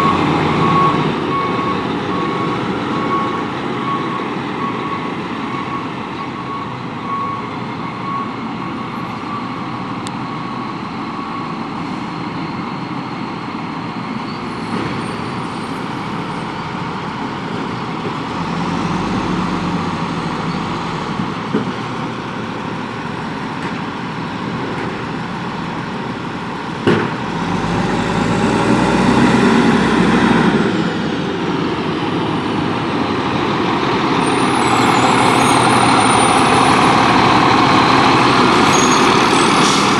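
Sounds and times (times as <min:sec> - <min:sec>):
garbage truck running: 0:00.0 - 0:39.9.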